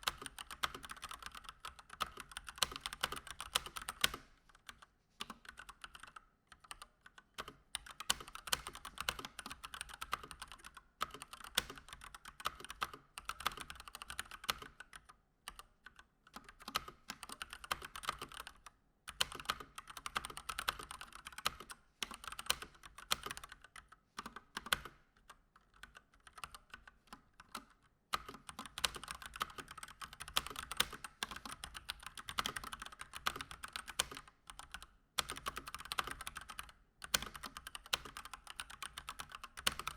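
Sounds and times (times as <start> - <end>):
fast mechanical keyboard typing: 0.0 - 15.7, 16.4 - 25.0, 25.6 - 39.9.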